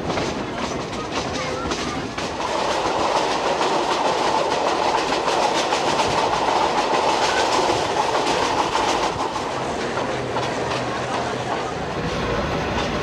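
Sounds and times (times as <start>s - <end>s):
train rattle and rumble: 0.0s - 13.0s
wheels clicking on track: 0.0s - 13.0s.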